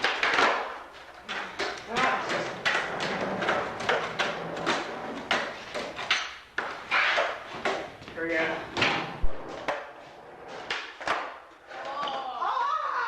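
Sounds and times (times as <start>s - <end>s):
skateboard wheels rolling: 0.0s - 8.0s, 8.7s - 12.7s
skateboards clacking and landing: 0.0s - 8.0s, 8.7s - 12.7s.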